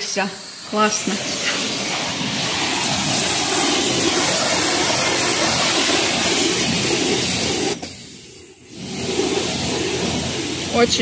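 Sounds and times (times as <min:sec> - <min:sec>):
pressure washer motor running: 0:00.0 - 0:11.0
pressure washer spraying water: 0:00.0 - 0:11.0.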